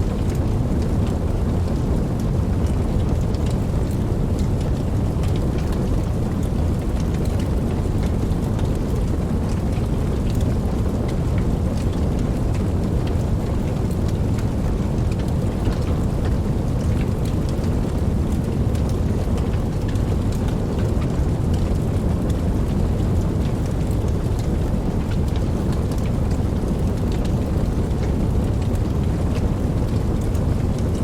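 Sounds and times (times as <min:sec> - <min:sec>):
steady rain rushing: 0:00.0 - 0:31.0.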